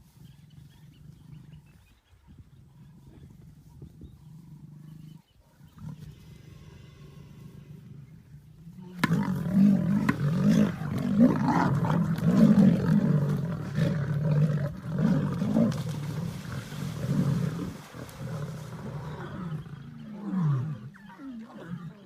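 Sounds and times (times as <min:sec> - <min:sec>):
lions growling and roaring: 0:00.0 - 0:22.0.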